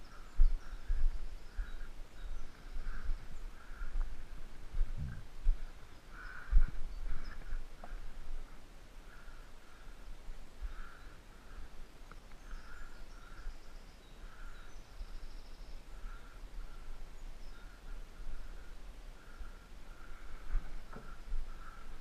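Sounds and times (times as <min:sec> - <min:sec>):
faint higher bird calls: 0:00.0 - 0:04.4, 0:05.5 - 0:22.0.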